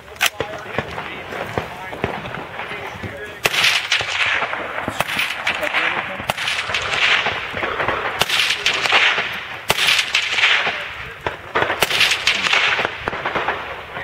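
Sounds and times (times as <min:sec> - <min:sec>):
faint sharp cracks: 0:00.0 - 0:14.0
rifle shots echoing: 0:00.0 - 0:14.0.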